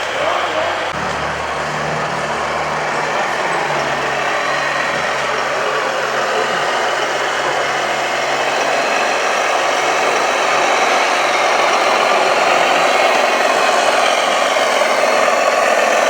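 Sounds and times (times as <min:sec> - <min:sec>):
model machines engine noise: 0:00.0 - 0:16.0.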